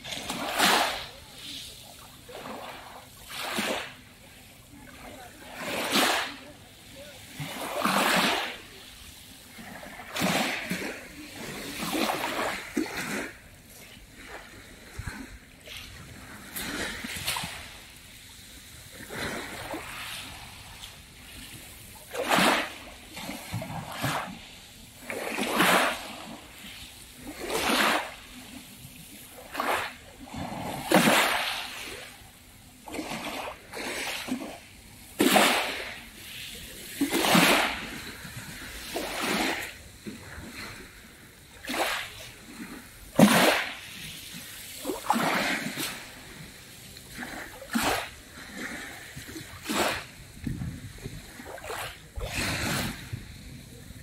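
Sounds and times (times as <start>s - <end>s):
waves lapping on pebble beach: 0.0s - 54.0s.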